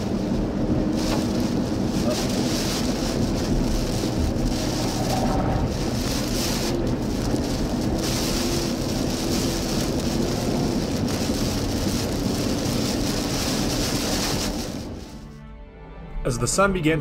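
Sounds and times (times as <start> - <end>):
wind and heavy rain rushing: 0.0 - 15.2.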